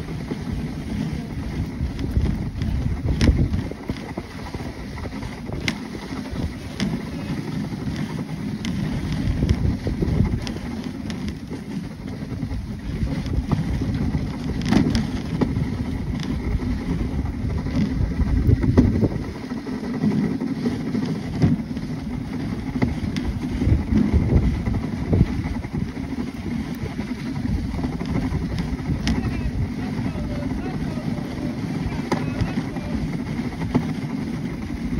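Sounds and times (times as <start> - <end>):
sled runners scraping on snow: 0.0 - 34.9.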